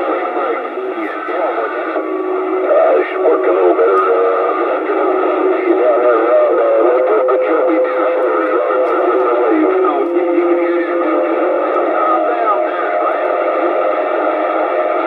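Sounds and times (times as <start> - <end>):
radio music-like tones: 0.0 - 15.0
singing over radio: 0.0 - 15.0.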